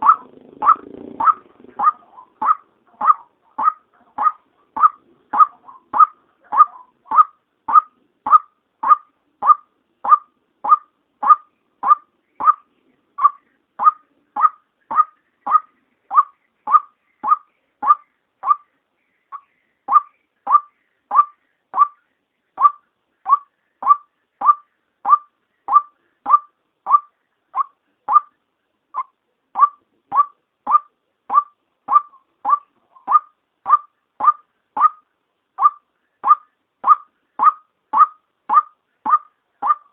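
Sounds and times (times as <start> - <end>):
waterhen call: 0.0 - 18.7, 19.3 - 22.0, 22.6 - 28.4, 29.0 - 39.9.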